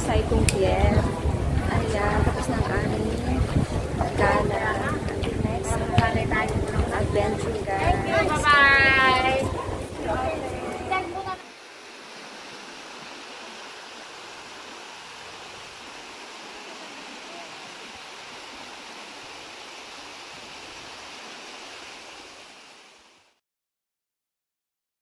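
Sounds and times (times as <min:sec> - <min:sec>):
stream rushing over boulders: 0:00.0 - 0:23.4.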